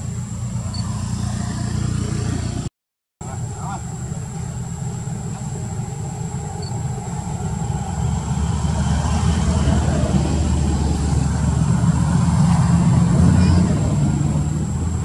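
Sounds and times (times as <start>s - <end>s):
faint high whine: 0.0s - 2.6s, 3.2s - 15.0s
motor rumbling: 0.0s - 15.0s.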